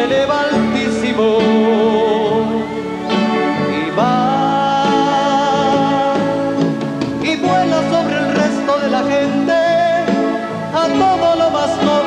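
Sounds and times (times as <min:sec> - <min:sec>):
band playing ballad: 0:00.0 - 0:12.0.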